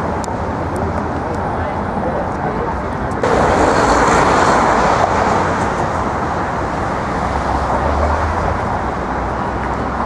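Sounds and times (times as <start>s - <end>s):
deep traffic rumble: 0.0s - 10.0s
passing vehicles: 0.0s - 10.0s.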